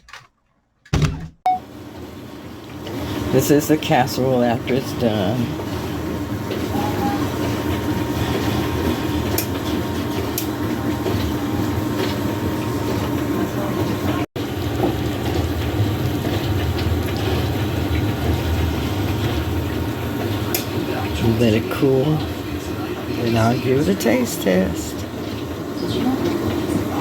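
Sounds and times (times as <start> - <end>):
low mechanical rumble and hum: 1.7 - 27.0.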